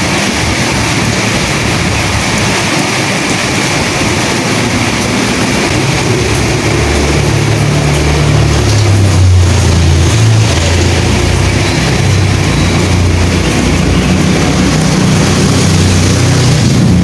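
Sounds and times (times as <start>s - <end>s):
steady rain: 0.0s - 17.0s
wind noise: 0.0s - 17.0s.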